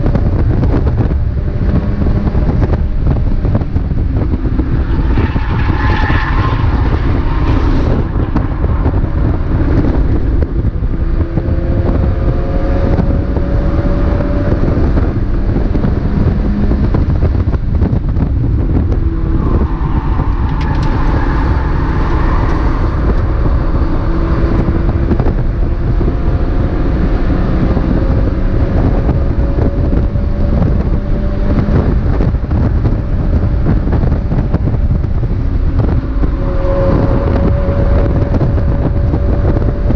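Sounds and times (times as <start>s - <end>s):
race car engine running hard: 0.0s - 39.9s
wind and road rumble: 0.0s - 39.9s.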